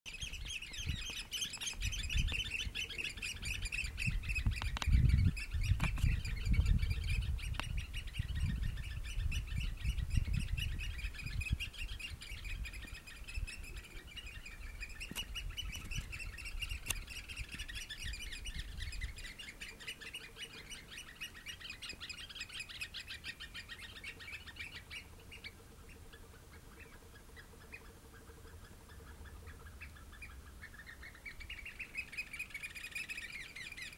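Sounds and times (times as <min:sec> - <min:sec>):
oystercatchers piping calls: 0:00.1 - 0:33.9.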